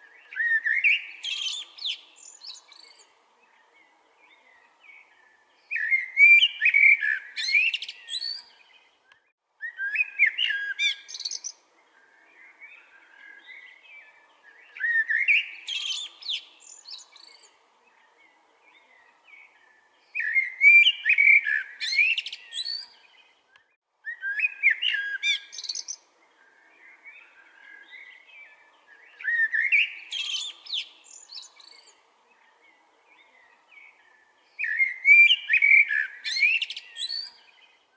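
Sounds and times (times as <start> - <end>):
soft bird twittering: 0.0 - 37.9
songbird singing: 0.0 - 37.9.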